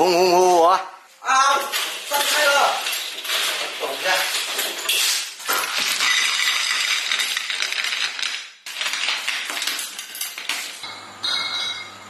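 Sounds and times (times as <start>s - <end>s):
dishes clinking and clattering: 1.5s - 12.0s.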